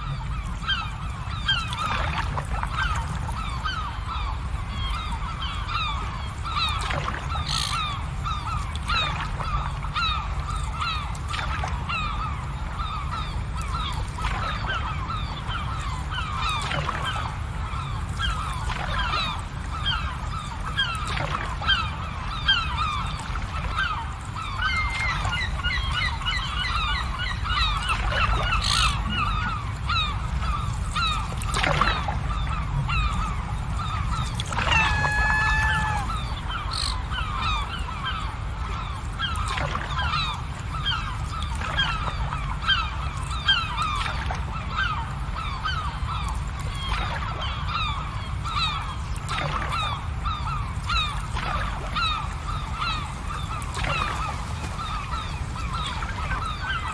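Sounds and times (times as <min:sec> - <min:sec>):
birds calling: 0:00.0 - 0:56.9
long drawn-out bird call: 0:00.0 - 0:56.9.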